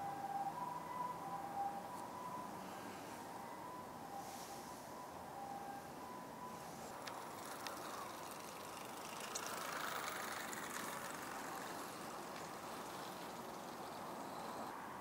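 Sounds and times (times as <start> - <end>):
faint hiss of distant vehicle: 0.0 - 15.0.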